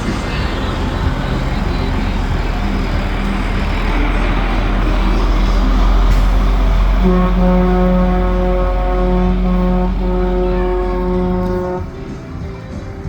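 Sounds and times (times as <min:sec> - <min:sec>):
truck engines rumbling past: 0:00.0 - 0:13.0
truck air horn chord: 0:00.1 - 0:12.8.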